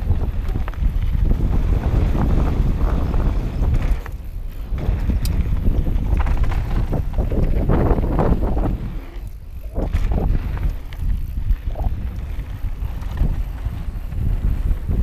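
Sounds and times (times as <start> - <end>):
bike frame and chain clattering: 0.0 - 15.0
wind buffeting microphone: 0.0 - 15.0.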